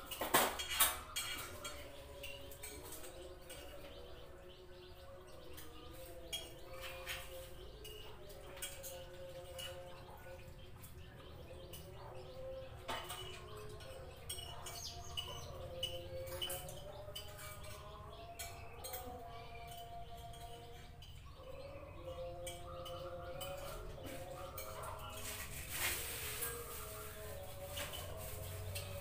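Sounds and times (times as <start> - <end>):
spoons scraping against plates: 0.0 - 29.0.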